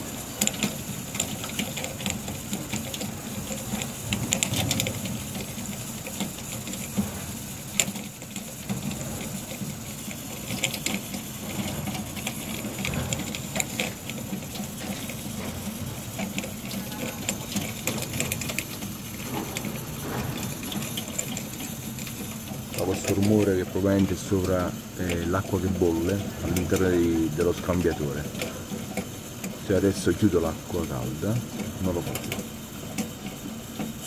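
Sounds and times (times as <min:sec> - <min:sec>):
boiler heat exchanger crackling: 0:00.0 - 0:34.0
steady low hum: 0:00.0 - 0:34.0.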